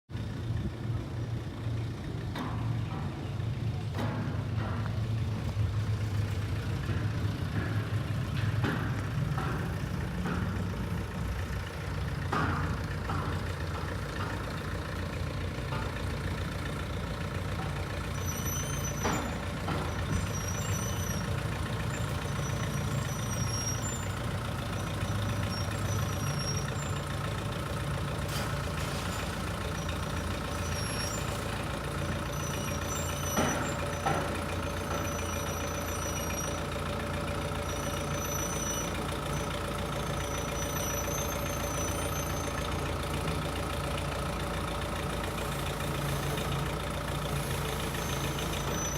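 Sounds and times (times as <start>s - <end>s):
backhoe engine rumbling: 0.1s - 48.9s.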